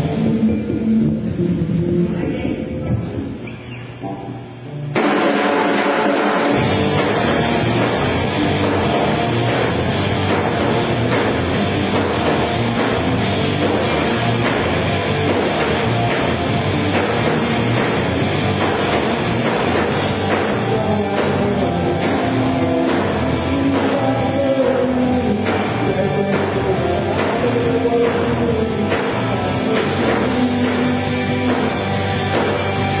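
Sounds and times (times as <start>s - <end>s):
rock band playing live: 0.0s - 2.1s, 4.9s - 33.0s.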